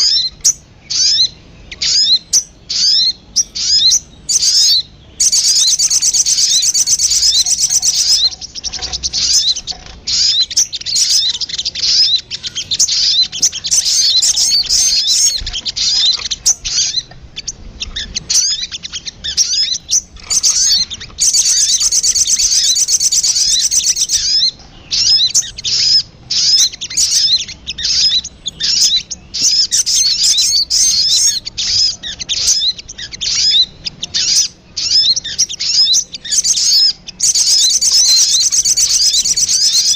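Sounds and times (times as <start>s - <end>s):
bird trill: 0.0s - 39.9s
sharp bird chips: 0.0s - 39.9s.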